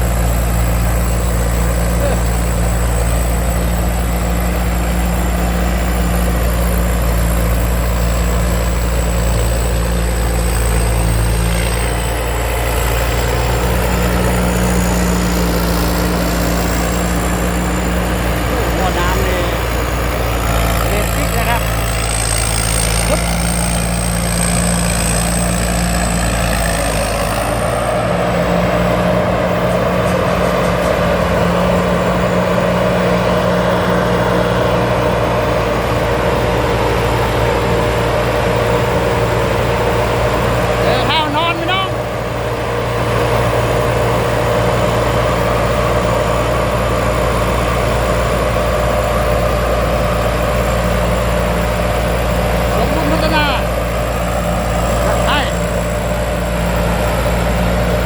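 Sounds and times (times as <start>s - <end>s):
combine harvester engine hum: 0.0s - 58.0s
high-pitched whine: 0.0s - 58.0s.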